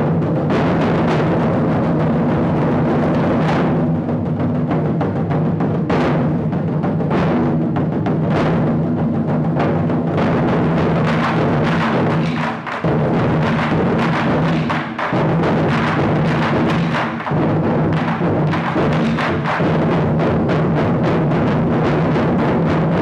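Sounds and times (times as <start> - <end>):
barrel drums played with sticks: 0.0 - 23.0.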